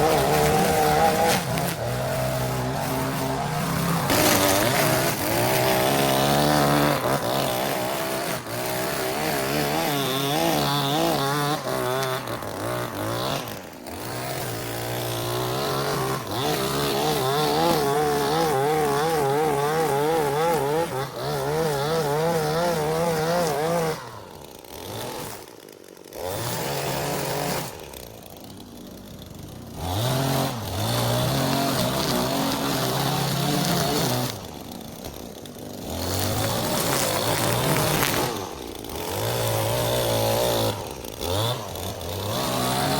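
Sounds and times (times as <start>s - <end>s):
small petrol engine running: 0.0s - 42.9s.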